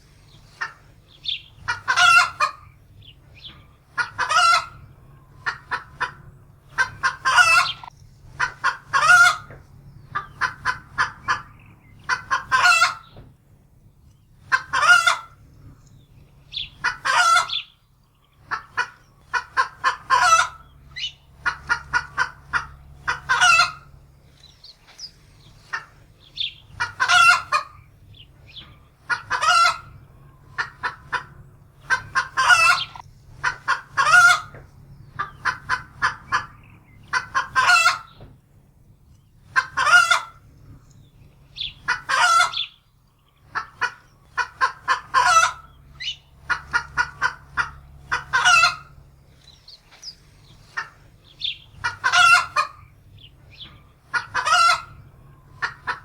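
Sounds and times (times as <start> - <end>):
hen cackling: 0.0 - 13.2, 14.4 - 15.4, 16.4 - 17.8, 18.4 - 38.3, 39.4 - 40.8, 41.4 - 56.0.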